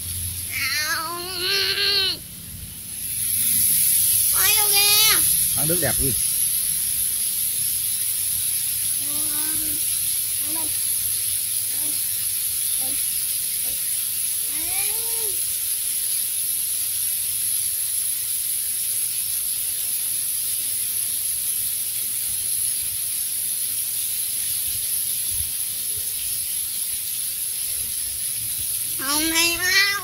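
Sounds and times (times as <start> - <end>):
waterfall rushing hiss: 0.0 - 30.0.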